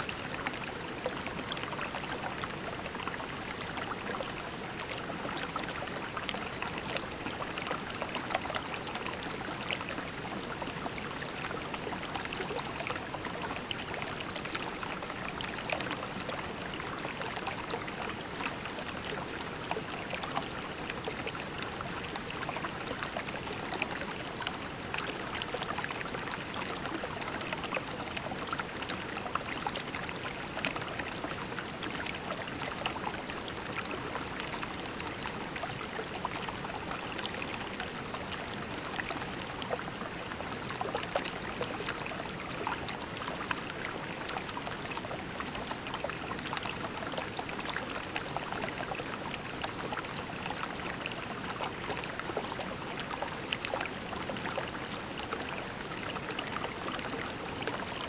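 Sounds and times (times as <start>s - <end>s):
creek water babbling over pebbles: 0.0s - 58.0s.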